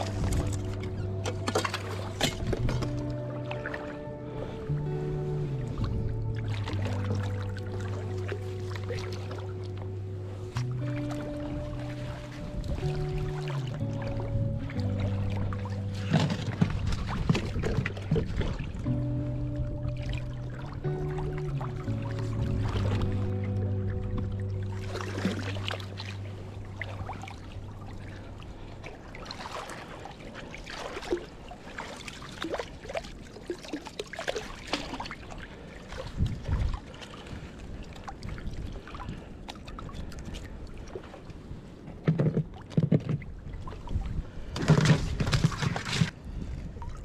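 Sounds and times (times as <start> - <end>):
water splashing and sloshing: 0.0 - 47.0.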